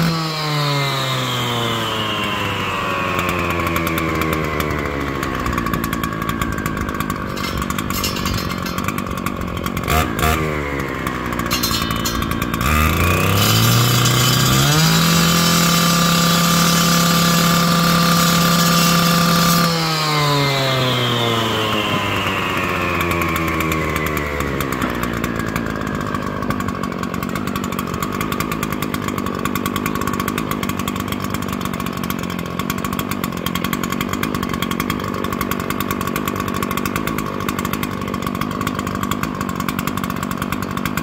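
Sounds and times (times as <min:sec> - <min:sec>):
small petrol engine running: 0:00.0 - 0:41.0.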